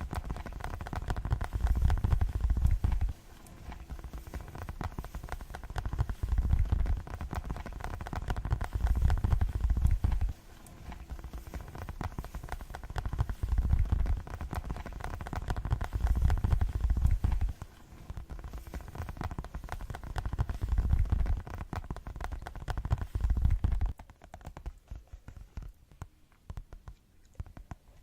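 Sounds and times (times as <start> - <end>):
rapid fingertip tapping: 0.0 - 28.0.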